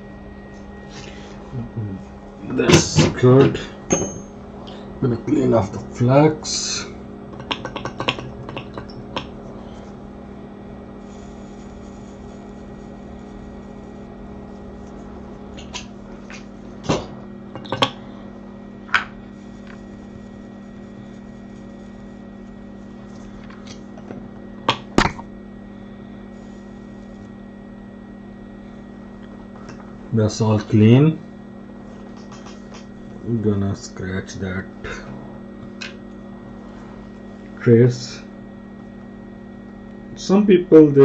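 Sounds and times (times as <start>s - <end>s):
electrical hum of equipment: 0.0s - 41.0s.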